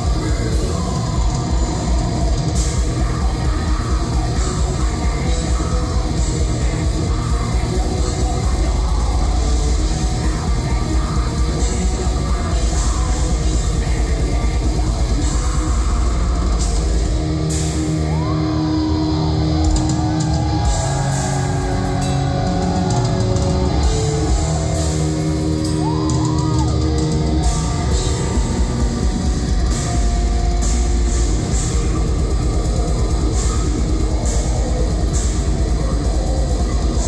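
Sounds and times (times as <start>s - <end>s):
distorted electric guitars: 0.0s - 37.0s
fast drum kit: 0.0s - 37.0s.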